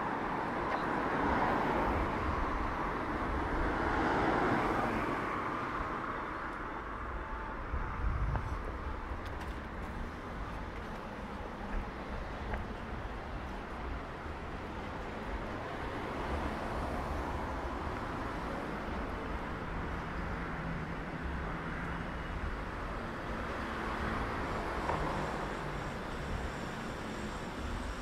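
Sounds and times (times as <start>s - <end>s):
passing vehicles rumbling: 0.0s - 28.0s.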